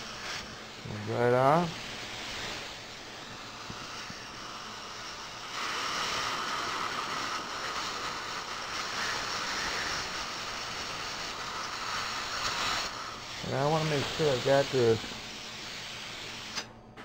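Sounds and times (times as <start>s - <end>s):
dental water spray and suction: 1.2s - 16.7s.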